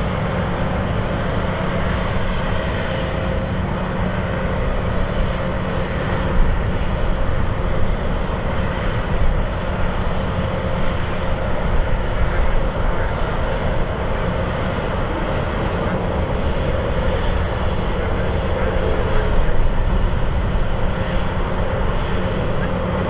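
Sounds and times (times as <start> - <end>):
jet airliner landing: 0.0 - 23.0.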